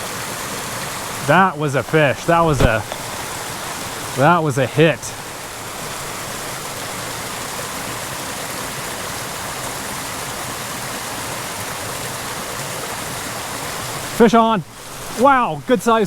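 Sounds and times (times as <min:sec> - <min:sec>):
mountain creek rushing: 0:00.0 - 0:16.0.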